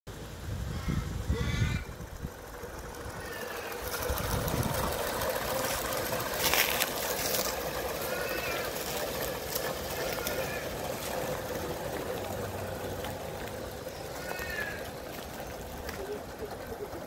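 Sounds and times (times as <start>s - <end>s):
model train wheel clatter: 1.9s - 17.0s.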